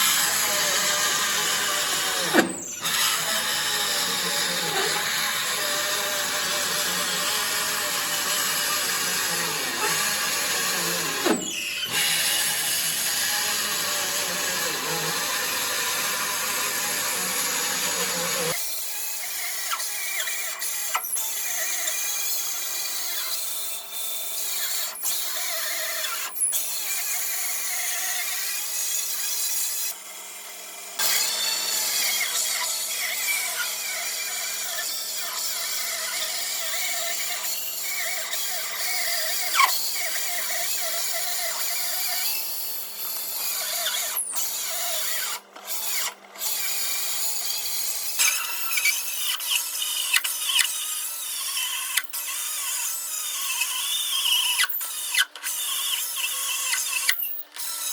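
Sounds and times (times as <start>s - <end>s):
power tool running: 0.0s - 57.9s.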